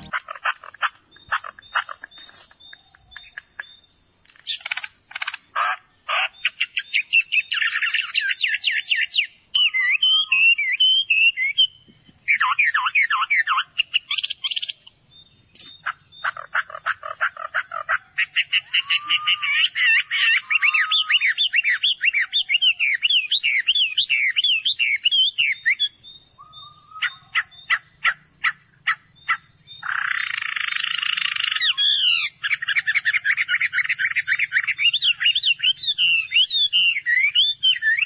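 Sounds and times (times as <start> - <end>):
songbirds chirping and singing: 0.0 - 38.0.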